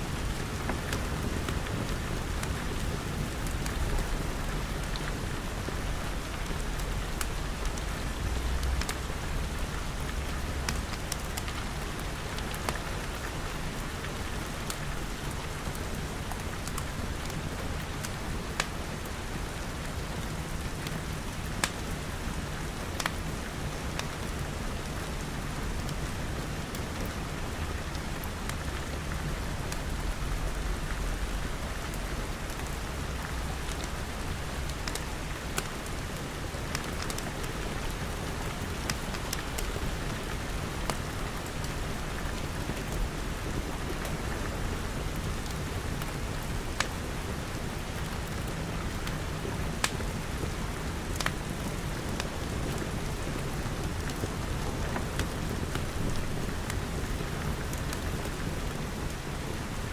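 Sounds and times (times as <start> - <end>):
rain falling on glass: 0.0 - 59.9
wood fire crackling: 0.0 - 59.9.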